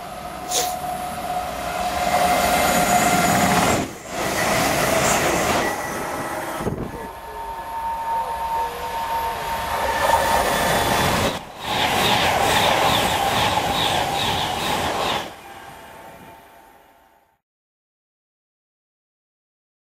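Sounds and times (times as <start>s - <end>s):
electric train high whine: 0.0s - 17.4s
electric train steady tone: 0.0s - 17.4s.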